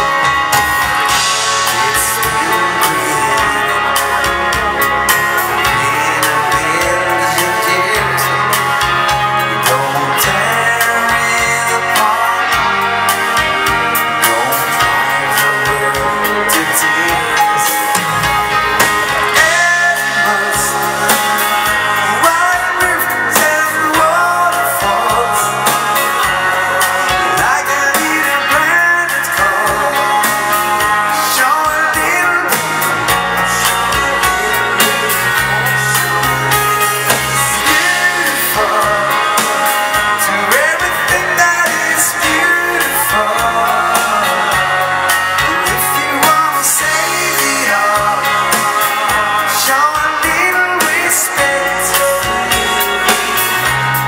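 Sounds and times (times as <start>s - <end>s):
drums with cymbal hits: 0.0s - 54.0s
electric guitar: 0.0s - 54.0s
keyboard: 0.0s - 54.0s
live dance band playing: 0.0s - 54.0s
sliding lead melody: 0.0s - 54.0s
steady bass line: 0.0s - 54.0s.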